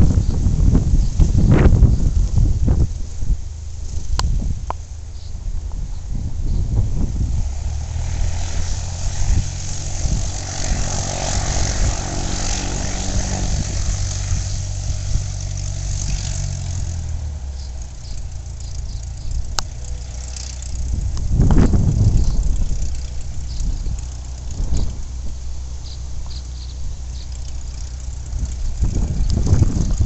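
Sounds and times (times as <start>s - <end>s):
propeller airplane engine droning: 0.0s - 30.0s
wind gusting on microphone: 0.0s - 30.0s.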